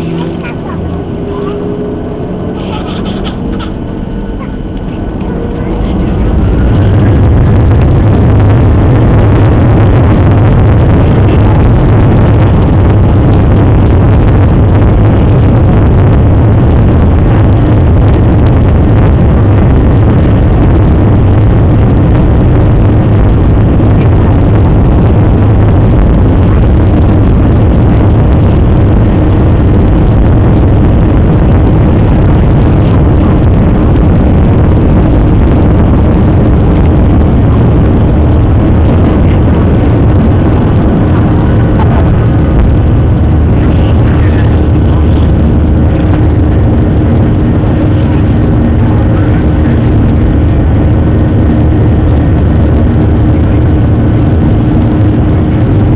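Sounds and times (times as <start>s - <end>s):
jet engines at takeoff power: 0.0s - 55.9s.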